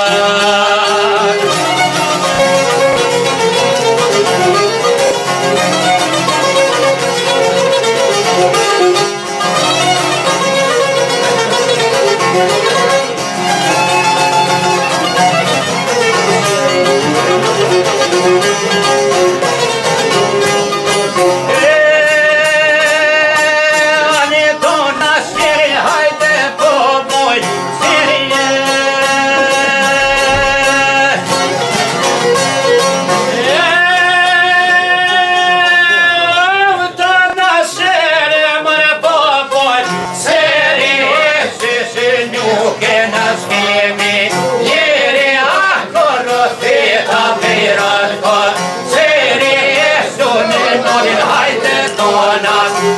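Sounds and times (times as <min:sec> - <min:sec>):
plucked lutes strummed: 0:00.0 - 0:52.9.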